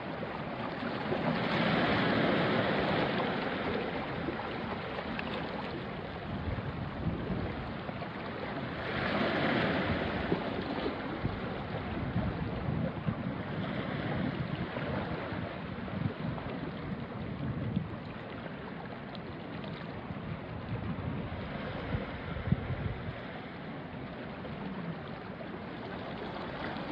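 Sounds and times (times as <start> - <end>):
small waves washing on rocks: 0.0 - 26.9
breeze rumbling on microphone: 1.0 - 18.7, 20.0 - 26.9.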